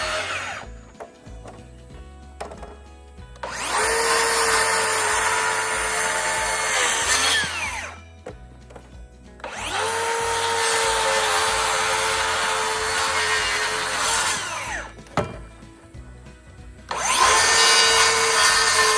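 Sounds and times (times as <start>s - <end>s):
electric power saw whining: 0.0s - 15.9s, 16.8s - 18.9s.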